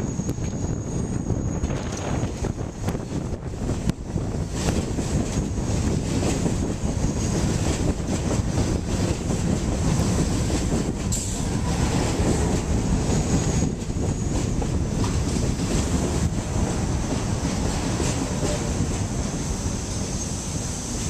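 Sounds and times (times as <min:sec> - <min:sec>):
subway train wheels rumbling on rail: 0:00.0 - 0:21.0.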